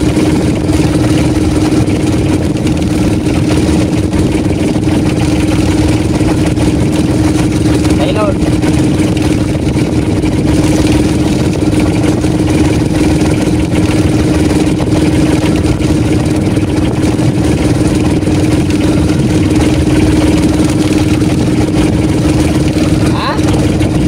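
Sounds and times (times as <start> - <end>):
boat engine running steadily: 0.0 - 24.0.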